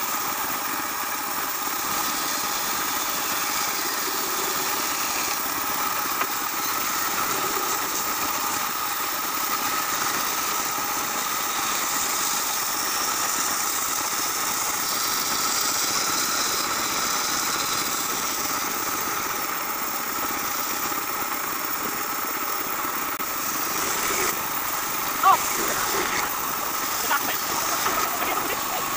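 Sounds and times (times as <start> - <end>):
band saw cutting wood: 0.0 - 28.9.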